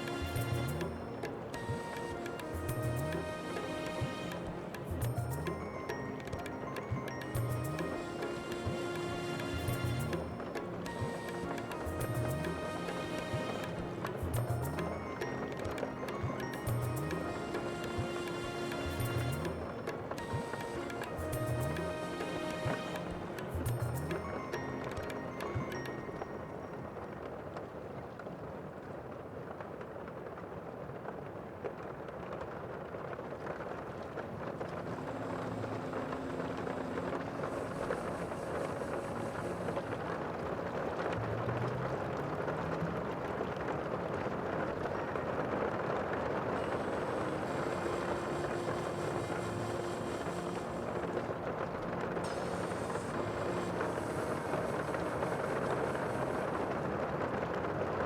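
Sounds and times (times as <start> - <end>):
sea waves washing: 0.0 - 27.3, 34.2 - 58.0.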